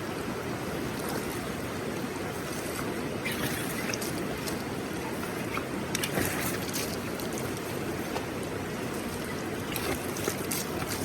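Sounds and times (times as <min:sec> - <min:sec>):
river rushing: 0:00.0 - 0:11.0
water splashes: 0:00.0 - 0:11.0.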